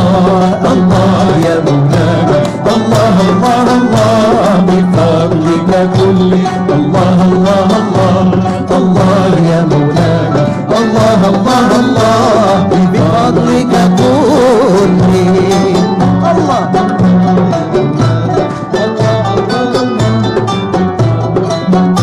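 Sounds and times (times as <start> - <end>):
drum strokes: 0.0 - 22.0
ornamented melody: 0.0 - 22.0.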